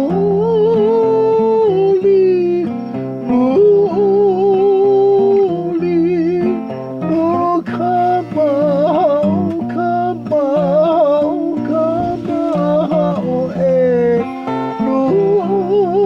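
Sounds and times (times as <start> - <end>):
instrumental accompaniment: 0.0 - 16.0
person singing a hymn: 0.0 - 16.0.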